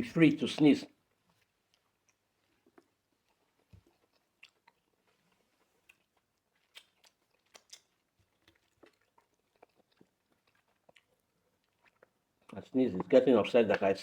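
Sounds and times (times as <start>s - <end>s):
people chewing: 0.1s - 14.0s.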